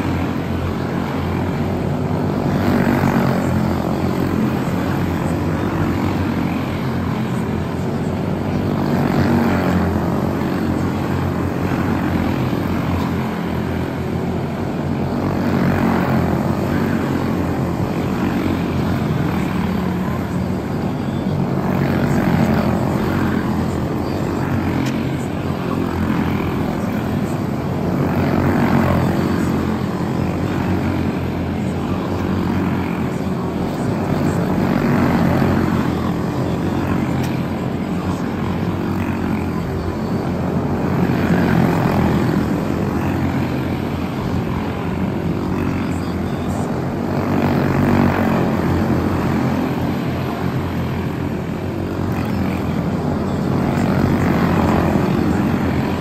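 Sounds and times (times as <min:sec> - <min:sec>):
race car engines buzzing: 0:00.0 - 0:56.0.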